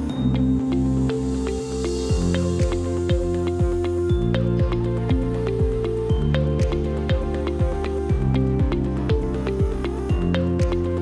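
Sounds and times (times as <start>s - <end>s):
upbeat corporate background music: 0.0s - 11.0s.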